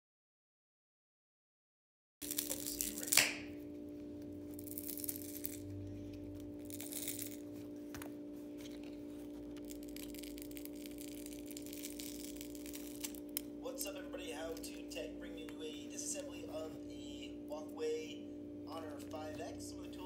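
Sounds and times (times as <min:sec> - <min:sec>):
steady hum: 0:02.2 - 0:20.0.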